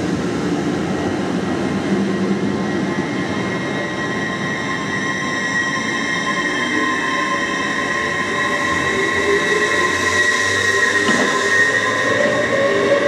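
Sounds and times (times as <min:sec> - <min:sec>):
train rail noise: 0:00.0 - 0:13.0
high-pitched wheel squealing: 0:01.9 - 0:13.0.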